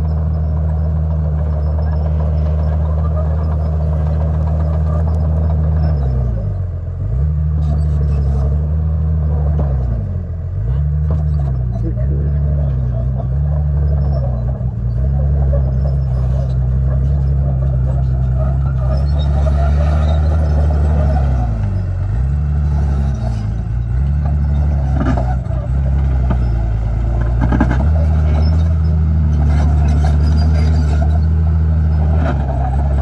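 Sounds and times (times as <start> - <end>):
bulldozer diesel engine running hard: 0.0 - 33.0.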